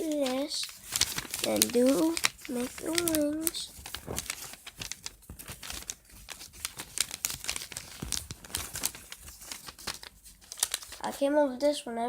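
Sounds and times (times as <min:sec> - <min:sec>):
paper crinkling and rustling: 0:00.0 - 0:11.4.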